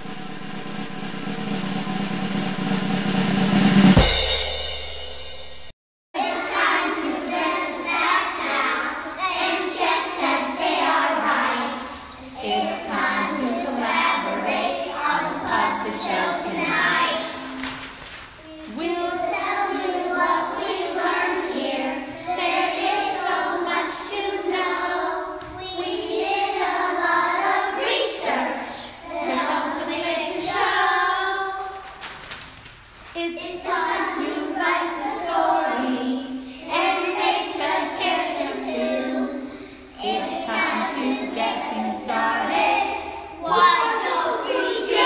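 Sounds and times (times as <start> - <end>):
children singing together: 6.2 - 31.8, 33.2 - 45.0.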